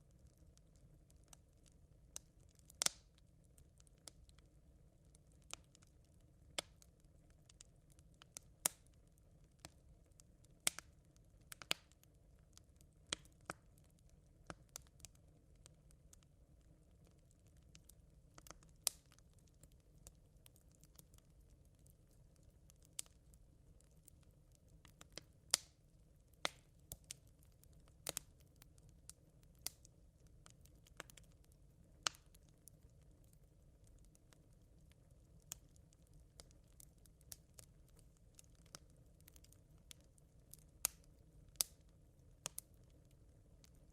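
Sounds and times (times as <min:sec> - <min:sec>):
embers crackling and popping: 0:00.0 - 0:43.9
faint low background noise: 0:00.0 - 0:43.9
faint low hiss: 0:00.0 - 0:43.9.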